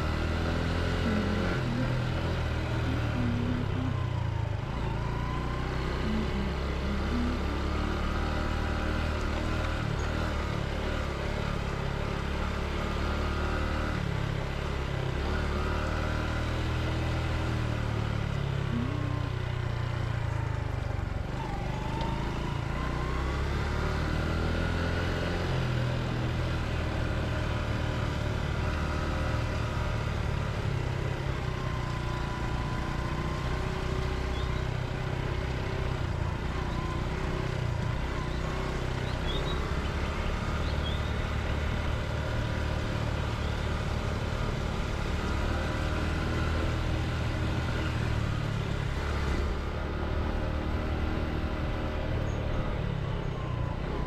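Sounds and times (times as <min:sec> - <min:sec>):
motorcycle engine running: 0:00.0 - 0:54.0
road and air noise: 0:00.0 - 0:54.0.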